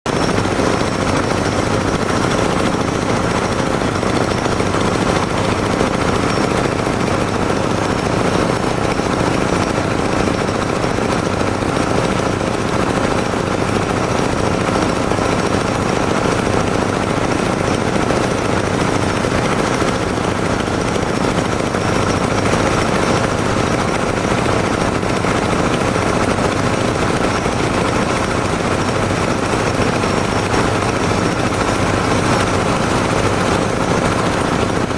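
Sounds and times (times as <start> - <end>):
drilling machine rattling: 0.1 - 34.9.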